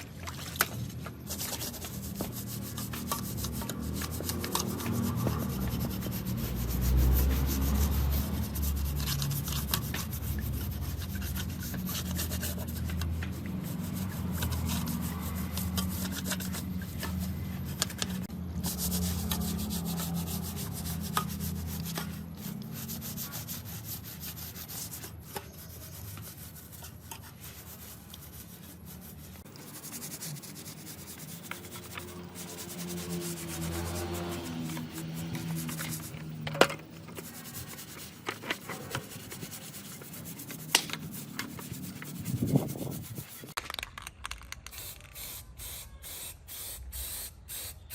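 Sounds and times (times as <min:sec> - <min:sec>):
sanding scraping strokes: 0:00.9 - 0:43.6.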